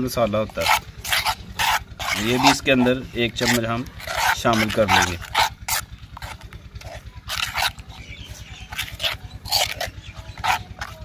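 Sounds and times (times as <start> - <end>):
low steady hum: 0.0 - 11.0
metal spoon scraping clay bowl: 0.0 - 11.0.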